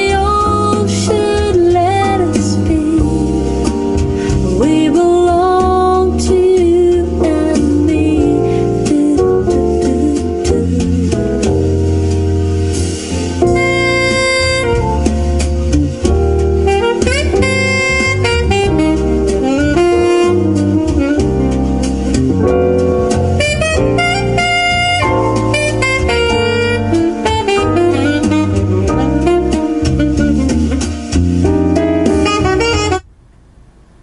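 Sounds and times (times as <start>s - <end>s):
jazz on car audio system: 0.0s - 34.0s.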